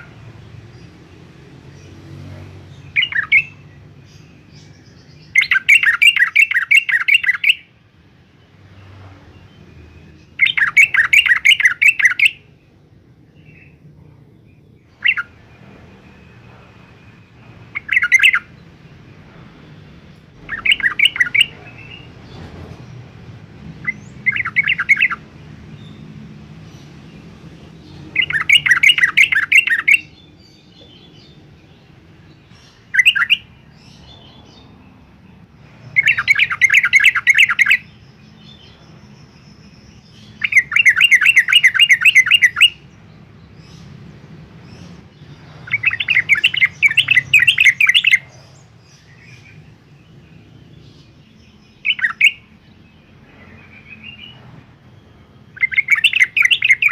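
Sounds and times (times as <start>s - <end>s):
bird singing rapid notes: 0.0s - 56.9s.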